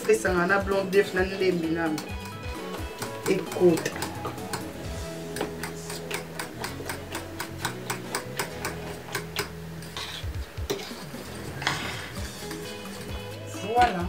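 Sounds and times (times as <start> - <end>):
fork beating eggs in bowl: 0.0 - 13.9.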